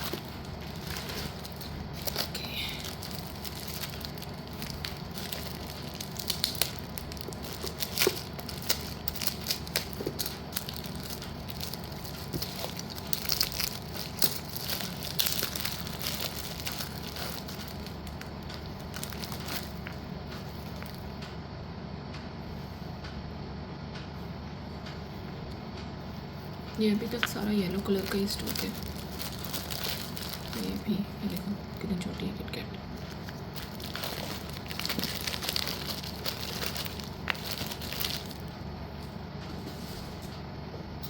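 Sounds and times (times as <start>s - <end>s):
plastic packaging crinkling: 0.0s - 21.2s, 26.7s - 40.2s
steady low hum: 0.0s - 41.0s.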